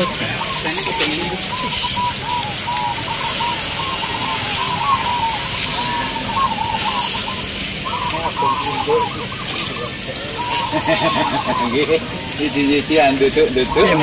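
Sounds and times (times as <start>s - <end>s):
doves cooing: 0.0s - 14.0s
steady background hiss: 0.0s - 14.0s.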